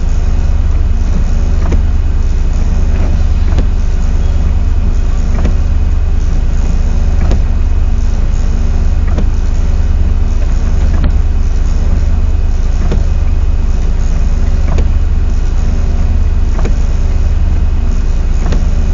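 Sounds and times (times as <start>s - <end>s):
diesel truck engine droning: 0.0s - 18.9s.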